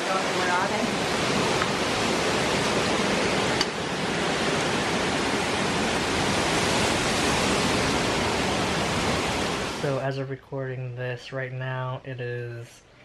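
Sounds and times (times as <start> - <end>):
hurricane wind and rain: 0.0 - 10.5.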